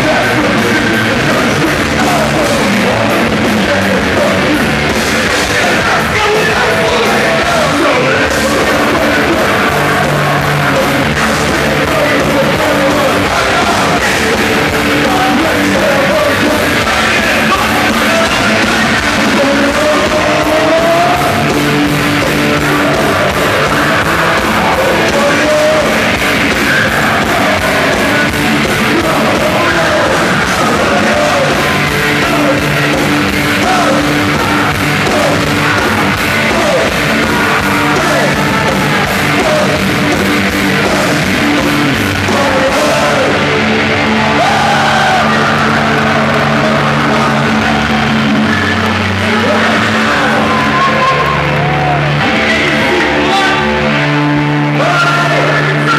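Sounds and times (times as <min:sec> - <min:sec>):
hard rock band playing: 0:00.0 - 0:55.9.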